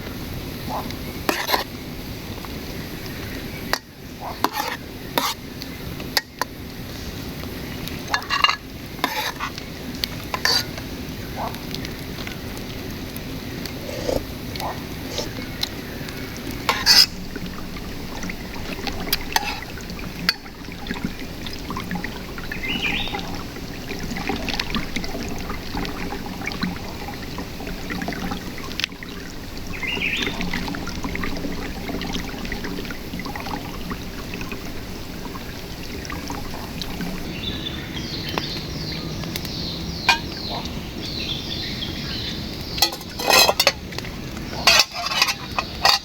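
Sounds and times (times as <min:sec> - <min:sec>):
river water trickling: 0:00.0 - 0:46.0.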